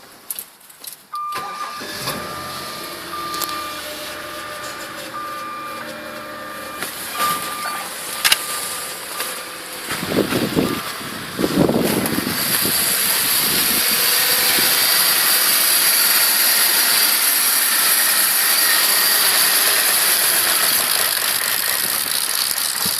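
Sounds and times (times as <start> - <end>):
high whine: 1.3 - 22.1
car engine idling unevenly: 1.3 - 22.9.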